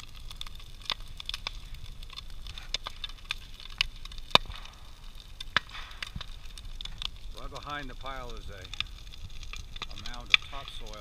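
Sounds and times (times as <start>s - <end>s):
bonfire crackling: 0.0s - 11.0s
sharp pops of burning wood: 0.0s - 11.0s.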